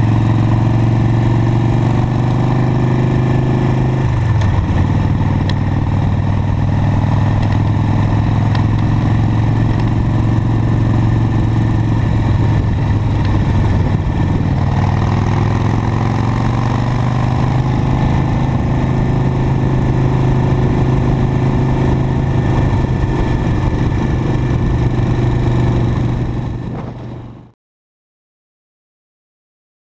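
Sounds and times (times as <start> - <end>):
motorcycle engine droning: 0.0 - 27.6.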